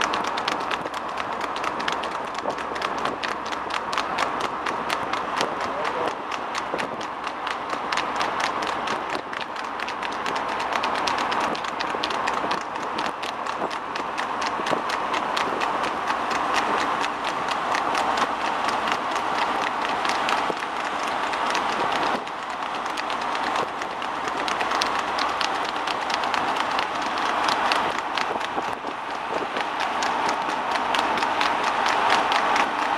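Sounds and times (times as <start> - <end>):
horse hoofbeats on asphalt: 0.0 - 32.9
vehicles driving: 0.0 - 32.9.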